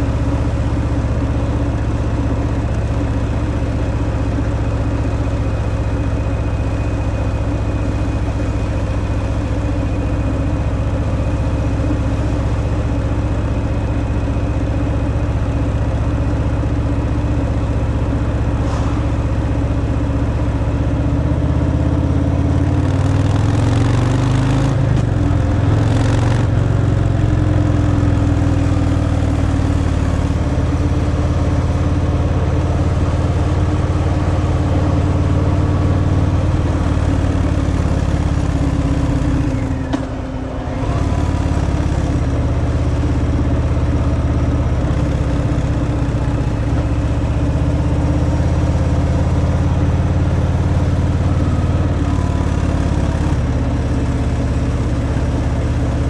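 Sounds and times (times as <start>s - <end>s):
motorcycle engine riding: 0.0s - 56.0s.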